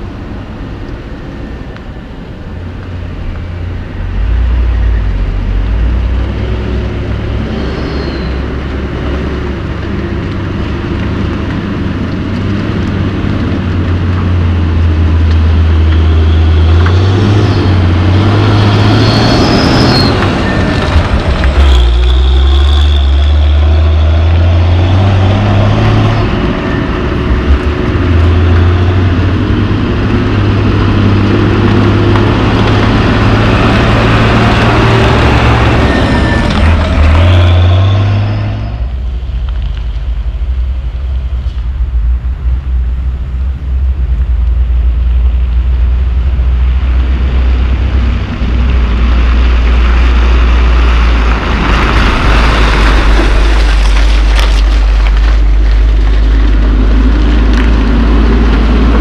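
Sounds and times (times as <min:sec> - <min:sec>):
diesel truck engine labouring: 0:00.0 - 0:59.0.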